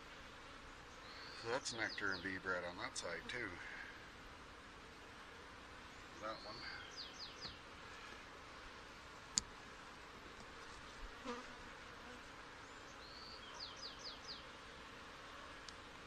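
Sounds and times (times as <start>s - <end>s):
honey bees humming: 0.0s - 16.0s.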